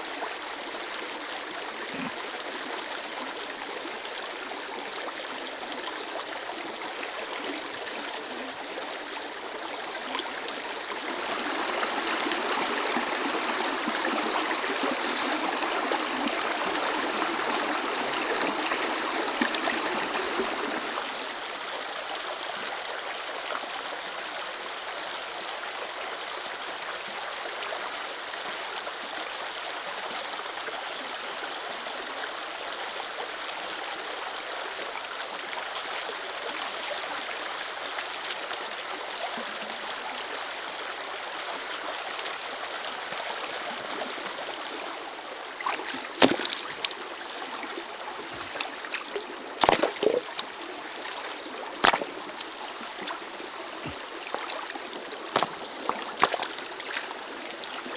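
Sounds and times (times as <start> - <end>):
stream trickling over stones: 0.0 - 57.9.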